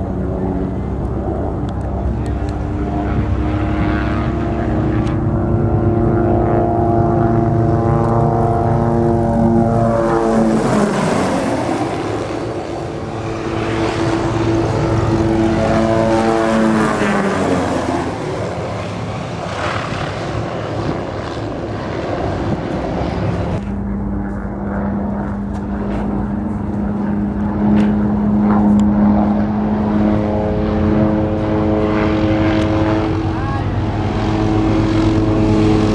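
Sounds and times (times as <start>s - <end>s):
helicopter drone nearby: 0.0s - 35.9s
helicopters flying past: 0.0s - 35.9s.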